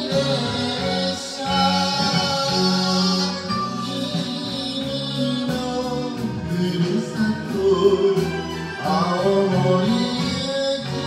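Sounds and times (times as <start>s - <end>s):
karaoke backing track: 0.0s - 11.0s
man singing karaoke: 0.0s - 11.0s.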